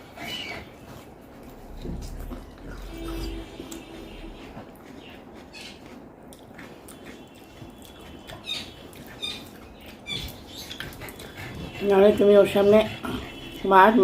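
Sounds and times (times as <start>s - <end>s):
soft wet chewing: 0.0s - 14.0s.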